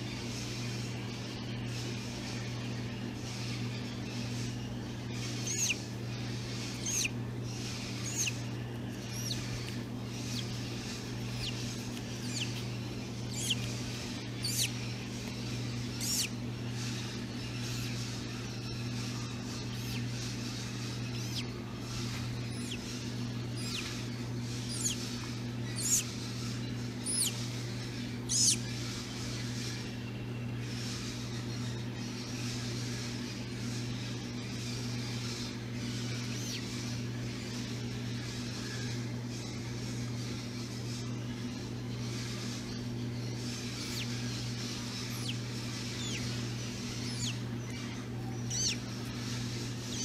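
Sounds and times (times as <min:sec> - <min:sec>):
steady low hum: 0:00.0 - 0:50.0
parrot chick peeping: 0:00.1 - 0:50.0.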